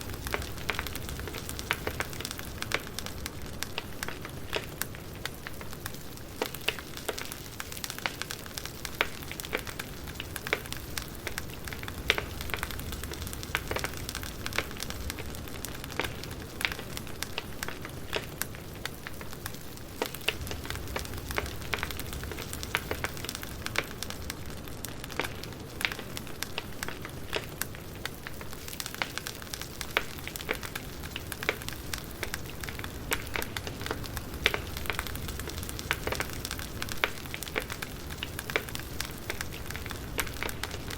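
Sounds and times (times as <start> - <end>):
low rush of flame: 0.0 - 5.9, 9.5 - 40.9
crackles and pops from logs: 0.0 - 40.9.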